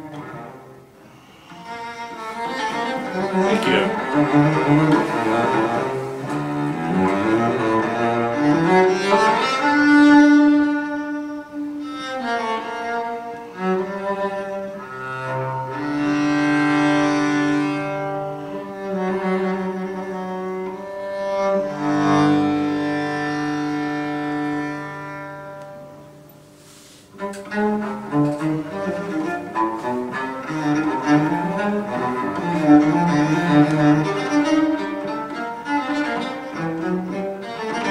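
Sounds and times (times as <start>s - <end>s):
cello music over loudspeakers: 0.0s - 37.9s.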